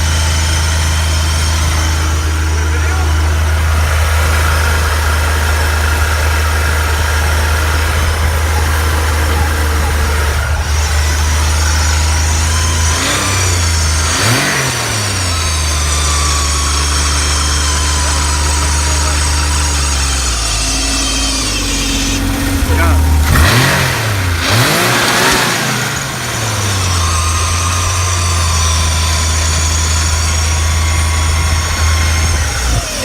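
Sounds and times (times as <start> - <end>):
high-pitched squeal: 0.0 - 33.0
snowmobile engine idling and revving: 0.0 - 33.0.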